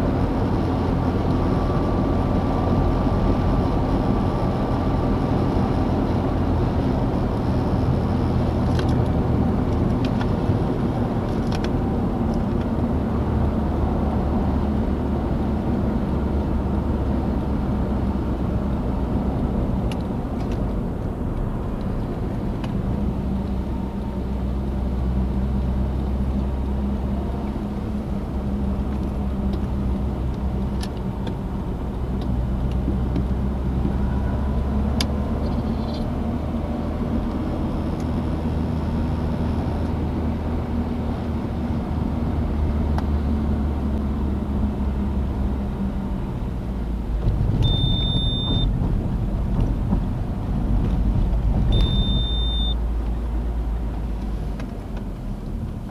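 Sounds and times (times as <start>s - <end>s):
car engine and road noise: 0.0s - 55.9s.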